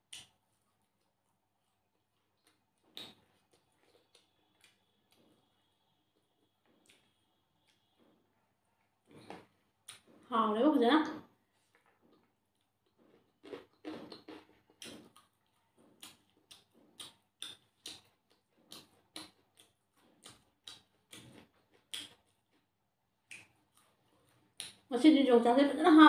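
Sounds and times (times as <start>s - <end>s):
person chewing with lips smacking: 0.0s - 10.3s, 11.4s - 24.9s.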